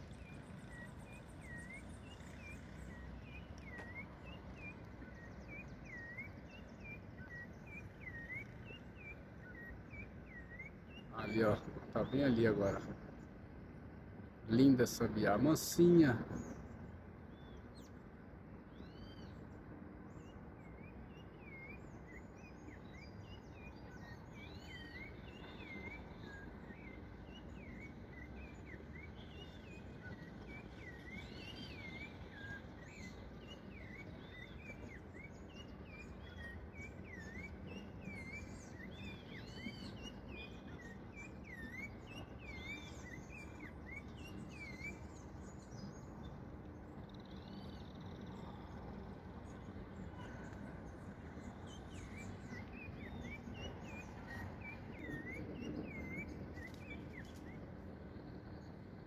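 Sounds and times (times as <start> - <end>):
low background noise: 0.0 - 59.0
thrush singing whistled notes: 0.0 - 59.0.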